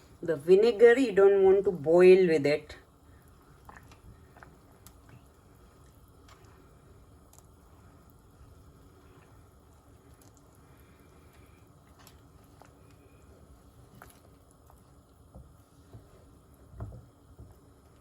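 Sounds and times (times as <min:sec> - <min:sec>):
gravy bubbling in a pan: 0:02.8 - 0:18.0.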